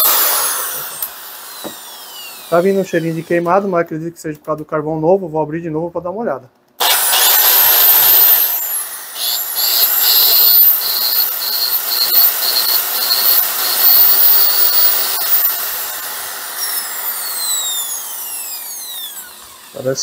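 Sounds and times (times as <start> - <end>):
drill motor whining: 0.0 - 3.7, 6.8 - 20.0.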